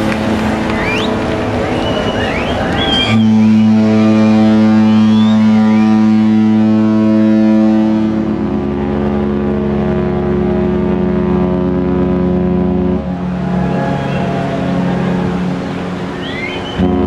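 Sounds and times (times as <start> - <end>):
deep ship horn blast: 0.0 - 17.0
second ship horn: 0.1 - 17.0.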